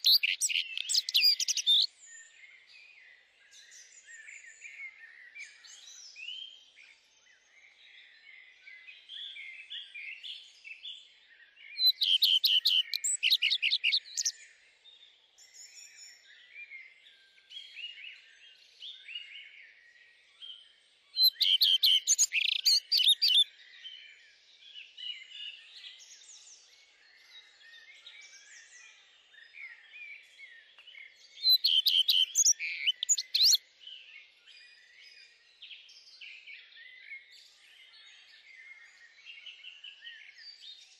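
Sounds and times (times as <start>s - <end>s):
rapid bird song phrase: 0.0s - 40.9s
songbirds chirping: 0.0s - 40.9s.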